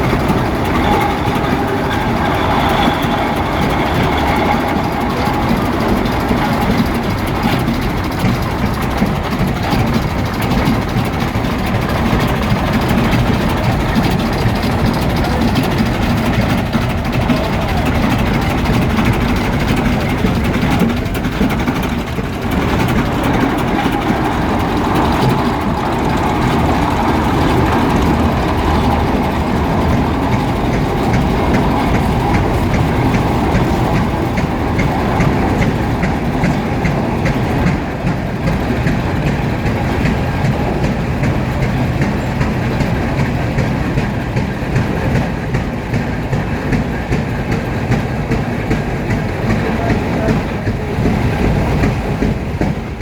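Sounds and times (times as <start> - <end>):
tractor engines chugging: 0.0 - 53.0.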